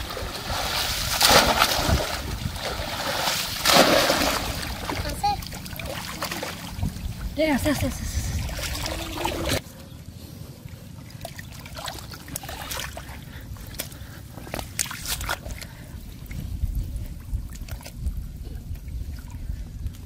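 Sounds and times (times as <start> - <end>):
small water splashes and drips: 0.0 - 7.4, 8.2 - 9.6, 11.1 - 20.0
muddy water sloshing and trickling: 0.0 - 9.6, 10.6 - 20.0.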